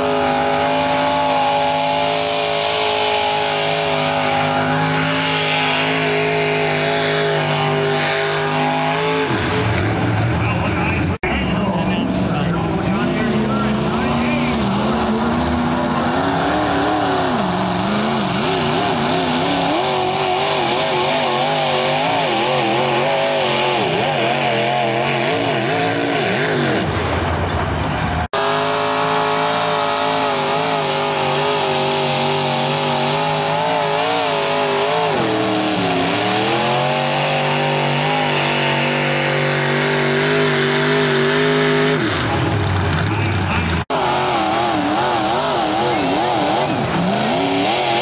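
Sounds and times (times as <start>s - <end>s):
pulling tractor engines revving: 0.0s - 48.0s.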